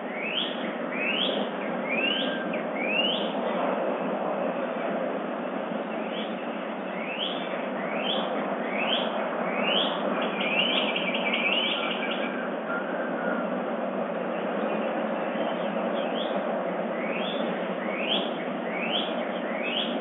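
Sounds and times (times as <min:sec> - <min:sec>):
songbird singing whistled notes: 0:00.0 - 0:03.4, 0:05.9 - 0:13.5, 0:14.4 - 0:20.0
steady background noise: 0:00.0 - 0:20.0.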